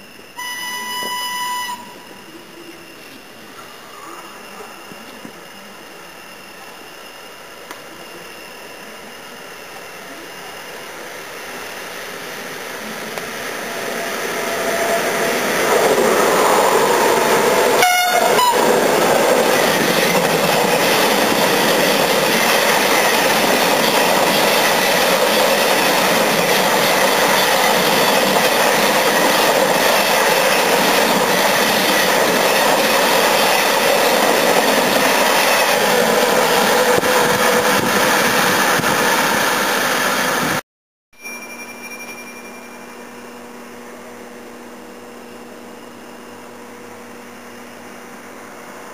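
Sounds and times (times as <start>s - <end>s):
freight train passing: 0.0s - 40.6s.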